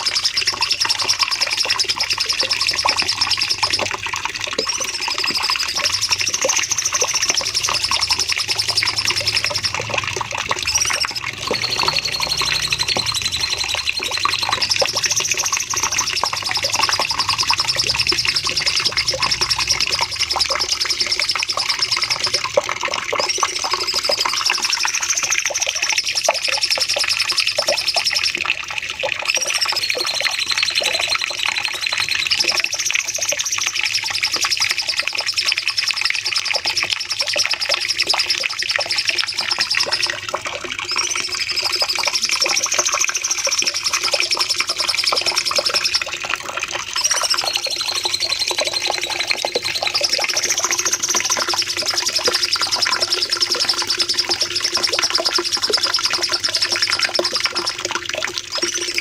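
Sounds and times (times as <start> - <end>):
bird singing high trills: 4.6 - 28.3, 29.4 - 34.3, 37.8 - 46.2, 46.8 - 57.8.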